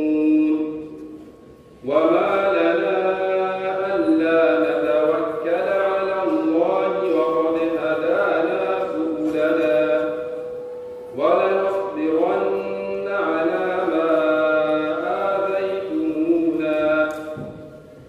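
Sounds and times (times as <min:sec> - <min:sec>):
man chanting into a microphone: 0:00.0 - 0:01.1, 0:01.8 - 0:10.4, 0:11.1 - 0:17.9.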